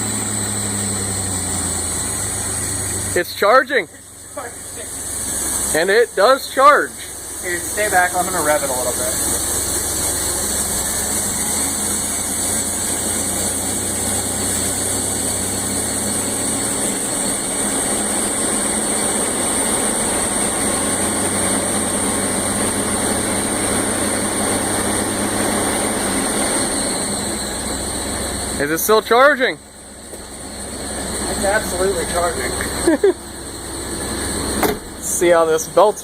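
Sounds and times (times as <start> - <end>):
engine running: 0.0 - 36.0
high-pitched alternator whine: 0.0 - 36.0.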